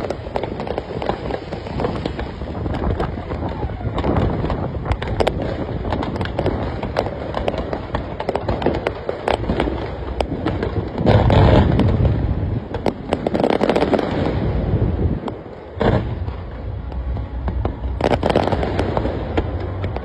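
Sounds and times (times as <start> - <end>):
fireworks booms: 0.0 - 20.0
fireworks crackling and popping: 0.0 - 20.0.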